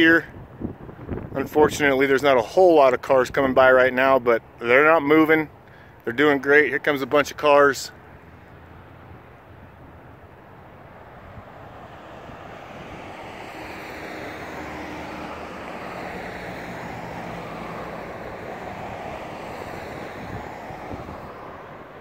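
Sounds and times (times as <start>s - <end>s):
cars passing on road: 0.0s - 22.0s.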